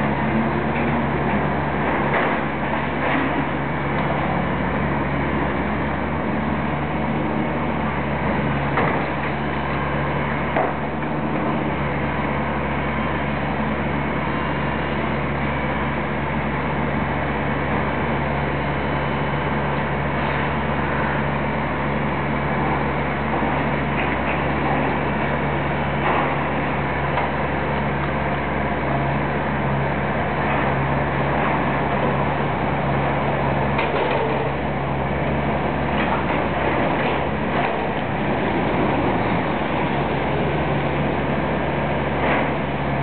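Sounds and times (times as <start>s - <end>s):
machinery engine drone: 0.0s - 43.0s
street noise: 0.0s - 43.0s.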